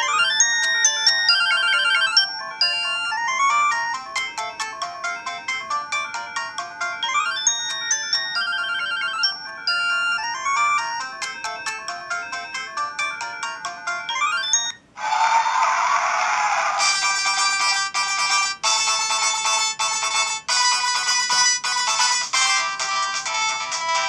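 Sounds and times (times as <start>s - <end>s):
polyphonic phone ringtone: 0.0s - 14.9s, 16.8s - 24.0s.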